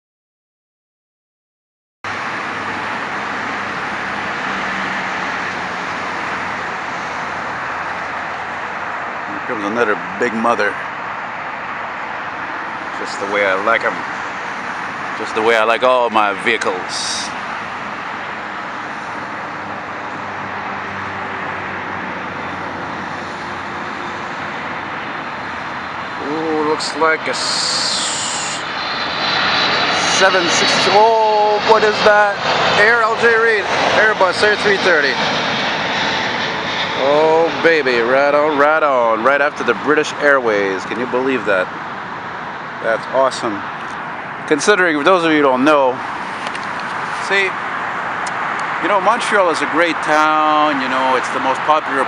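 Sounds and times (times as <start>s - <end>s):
highway traffic rush: 2.1s - 52.0s.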